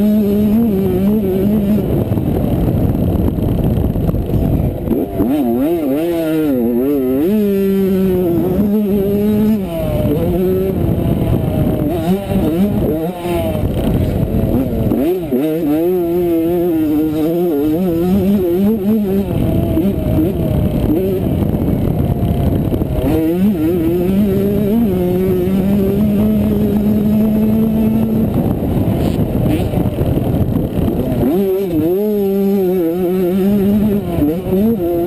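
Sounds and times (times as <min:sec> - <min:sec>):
motocross bike engine revving: 0:00.0 - 0:35.0
wind on microphone: 0:00.0 - 0:35.0.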